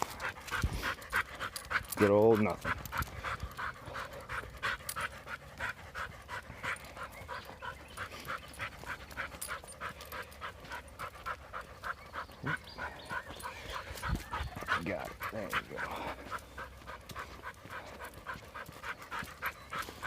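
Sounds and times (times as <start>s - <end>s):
dog panting quickly: 0.0s - 20.0s.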